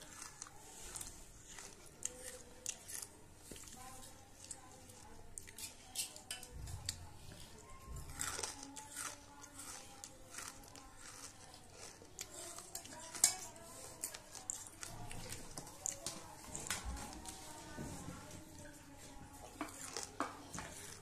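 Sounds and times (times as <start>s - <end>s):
crunching and chewing: 0.0s - 21.0s.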